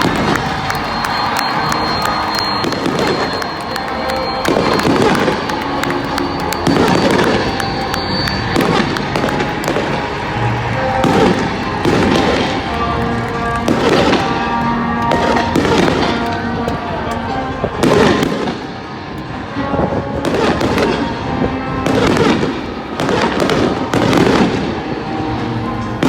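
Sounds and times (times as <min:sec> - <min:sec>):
fireworks bangs and crackling: 0:00.0 - 0:26.0
music playing: 0:00.0 - 0:26.0.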